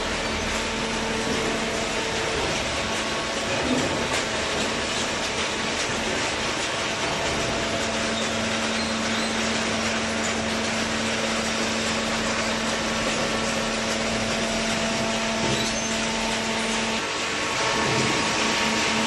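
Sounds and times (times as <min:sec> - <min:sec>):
hydraulic baler running: 0:00.0 - 0:19.0.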